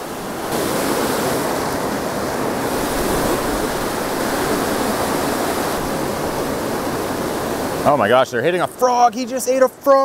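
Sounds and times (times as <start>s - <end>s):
whitewater rushing: 0.0s - 10.0s.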